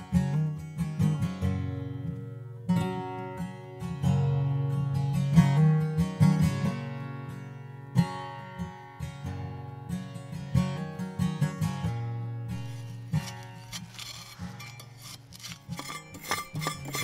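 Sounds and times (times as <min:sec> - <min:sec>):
acoustic guitar plucked notes: 0:00.0 - 0:17.0.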